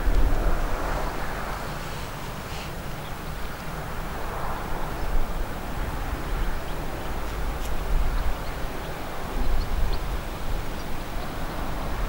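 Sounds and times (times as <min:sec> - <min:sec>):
wind gusting over microphone: 0:00.0 - 0:12.0.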